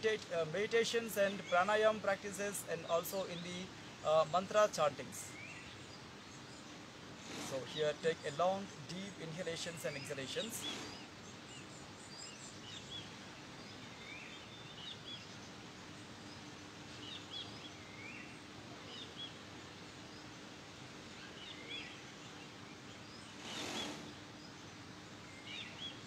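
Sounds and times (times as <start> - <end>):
background hiss: 0.0 - 26.0
small birds chirping: 0.0 - 26.0.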